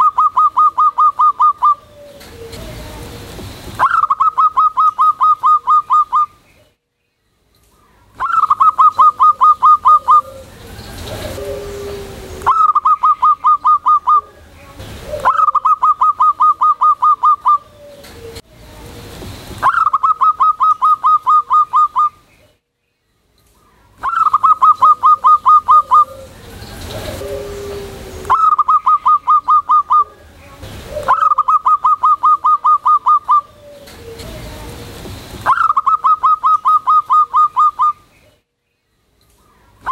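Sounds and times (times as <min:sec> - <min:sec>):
dove calling in staccato bursts: 0:00.0 - 0:02.8, 0:03.6 - 0:06.4, 0:08.0 - 0:18.4, 0:19.5 - 0:22.3, 0:24.0 - 0:38.2.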